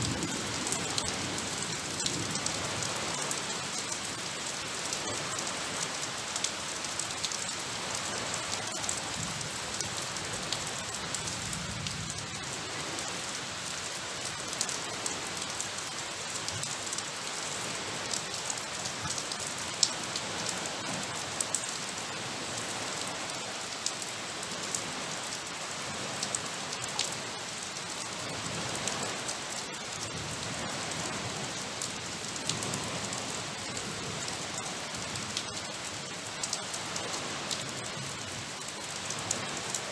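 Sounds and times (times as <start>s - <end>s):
raindrops ticking close by: 0.0s - 39.9s
steady rain falling: 0.0s - 39.9s.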